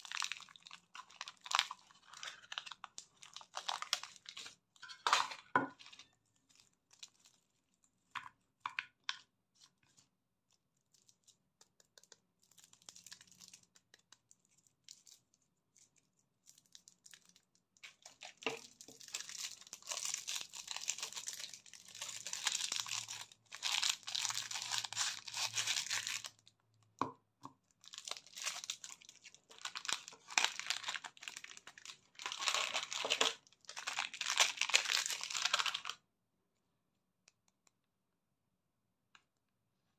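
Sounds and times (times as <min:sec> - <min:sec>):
candy wrappers crinkling and tearing: 0:00.0 - 0:26.9, 0:27.7 - 0:36.0.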